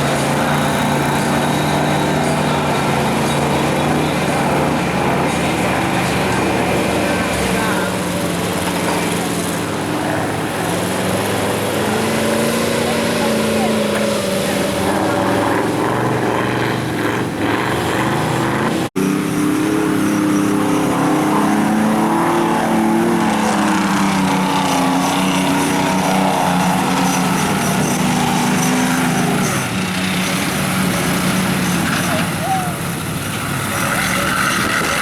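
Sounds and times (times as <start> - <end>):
truck engine running hard: 0.0 - 35.0.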